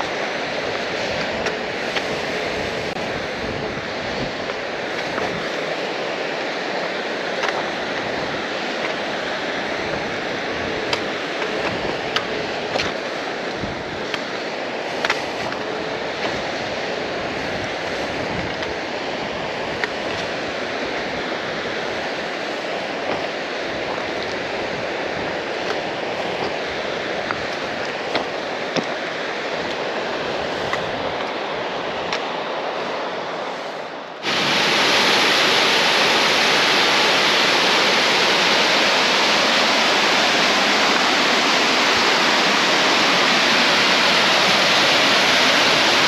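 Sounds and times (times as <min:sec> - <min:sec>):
mountain stream rushing: 0:00.0 - 0:46.0.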